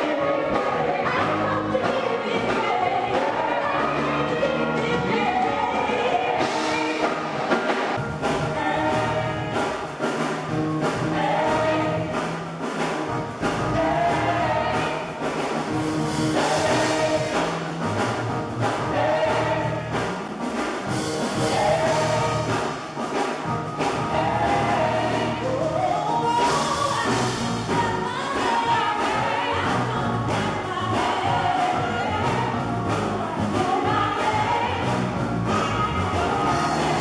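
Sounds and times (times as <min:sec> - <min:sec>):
choir singing gospel with band: 0:00.0 - 0:37.0.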